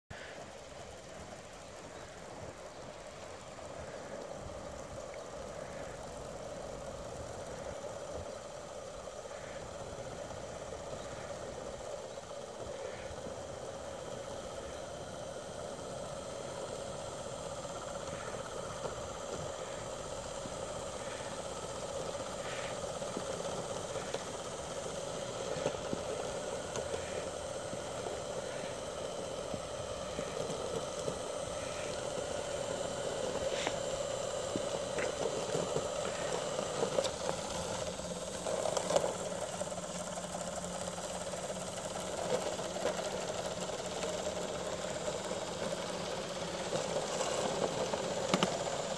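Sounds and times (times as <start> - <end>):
electric motors humming: 0.1 - 48.9.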